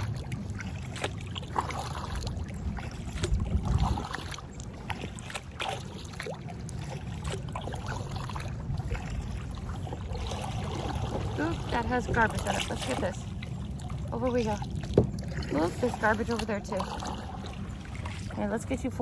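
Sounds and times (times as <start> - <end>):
paddle splashing in water: 0.0 - 19.0
steady low rumble: 0.0 - 19.0.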